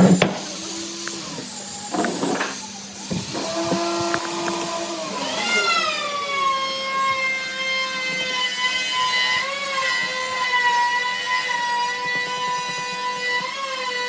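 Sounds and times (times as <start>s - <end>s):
power tool motor whining: 0.0s - 14.0s.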